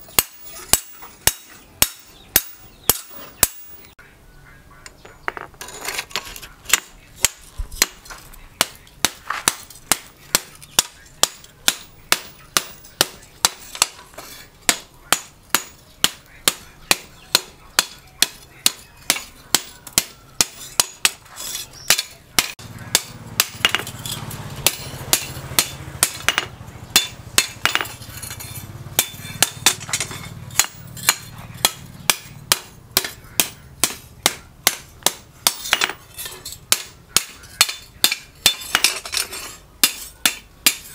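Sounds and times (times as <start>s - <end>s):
hammer clanging on anvil: 0.1s - 3.9s, 6.7s - 40.9s.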